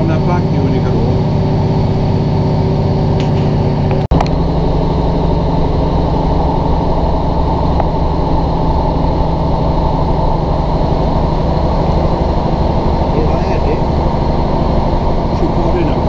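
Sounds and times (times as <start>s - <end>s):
diesel train engine drone: 0.0s - 16.0s
wheel and rail noise: 0.0s - 16.0s.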